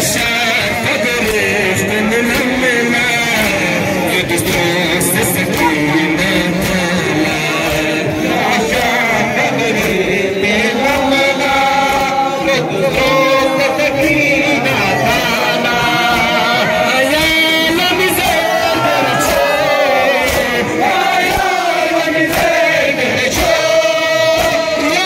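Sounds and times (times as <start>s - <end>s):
men chanting a mourning lament: 0.0s - 25.0s.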